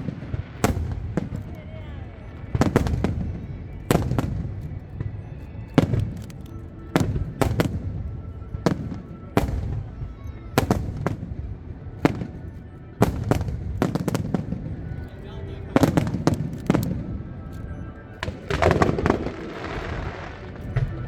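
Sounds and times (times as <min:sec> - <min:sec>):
fireworks bangs: 0:00.0 - 0:17.3, 0:18.1 - 0:21.0.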